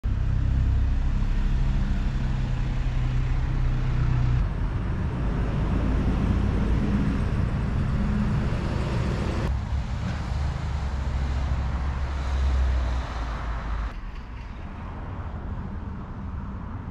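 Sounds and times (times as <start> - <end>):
low engine hum: 0.0 - 16.8
road traffic rumble: 0.0 - 16.9.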